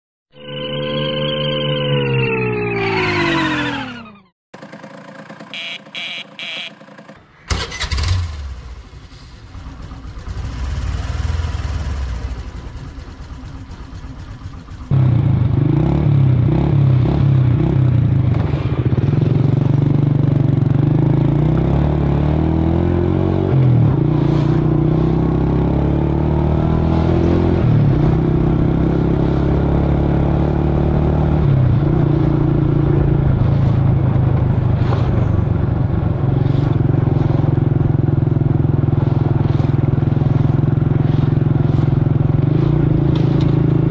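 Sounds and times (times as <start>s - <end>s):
scooter engine revving: 2.8s - 43.9s
moped engine running: 4.5s - 26.2s, 26.9s - 43.9s.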